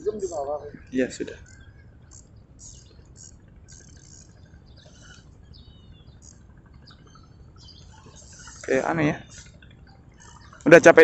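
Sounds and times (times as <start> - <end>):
high bird chirps: 0.0 - 11.0
low rumble of wind and water: 0.0 - 11.0.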